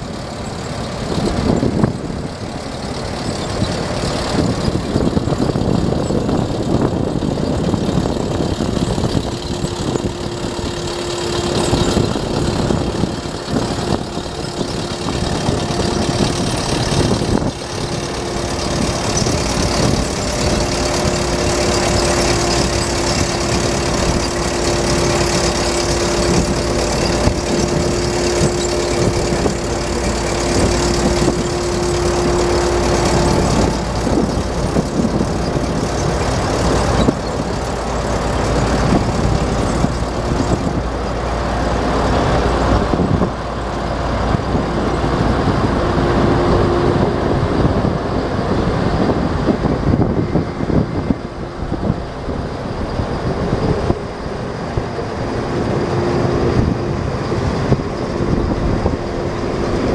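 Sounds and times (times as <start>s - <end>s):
diesel engine running: 0.0s - 59.9s
steady whine: 0.0s - 59.9s.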